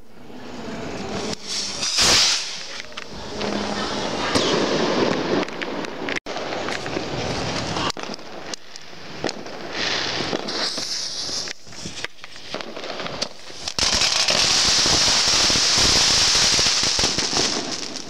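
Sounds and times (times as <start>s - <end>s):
firework hissing sparks: 1.0s - 5.6s, 6.3s - 18.0s
firecrackers popping and crackling: 1.1s - 18.0s.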